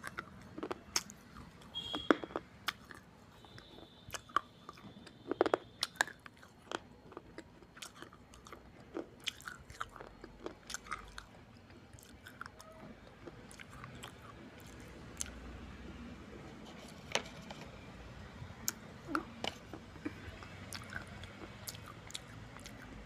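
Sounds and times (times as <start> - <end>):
person chewing crunchy clay: 0.0 - 16.9, 18.6 - 23.0.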